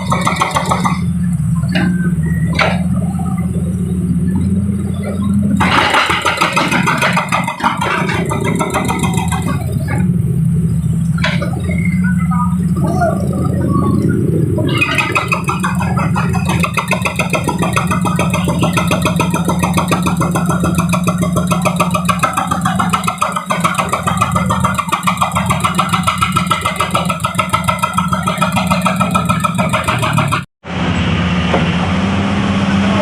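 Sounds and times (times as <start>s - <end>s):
heavy machine engine pulsing: 0.0s - 33.0s.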